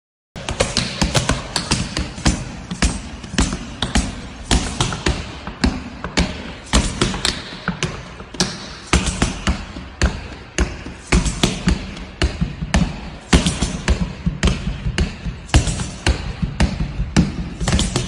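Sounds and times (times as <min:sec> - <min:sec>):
dance shoes tapping and stamping: 0:00.4 - 0:18.0.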